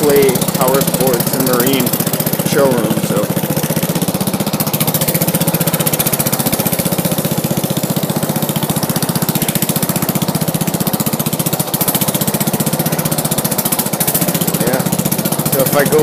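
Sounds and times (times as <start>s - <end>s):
lawn tractor engine idling: 0.0s - 16.0s.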